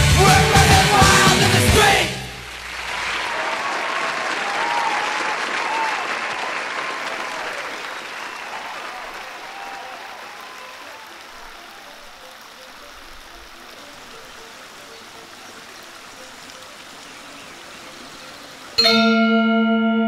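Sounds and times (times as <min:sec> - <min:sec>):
fountain water splashing: 0:02.3 - 0:18.8.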